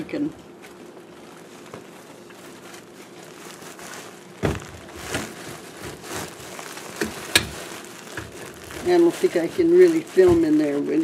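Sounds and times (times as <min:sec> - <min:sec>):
rustling and scraping under sink: 0:00.6 - 0:10.8.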